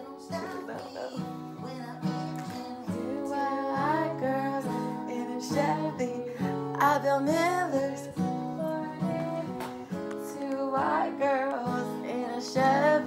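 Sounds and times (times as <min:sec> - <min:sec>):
person singing: 0:00.0 - 0:13.0
strummed acoustic guitar: 0:00.0 - 0:13.0.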